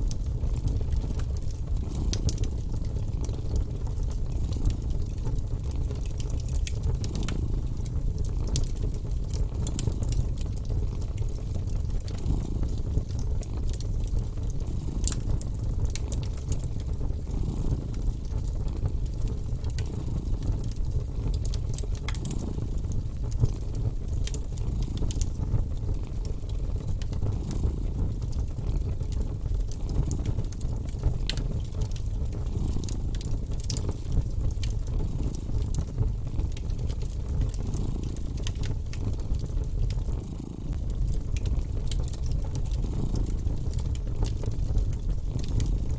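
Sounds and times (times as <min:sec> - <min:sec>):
wood fire crackling and popping: 0:00.0 - 0:45.9
cat purring: 0:00.2 - 0:45.9.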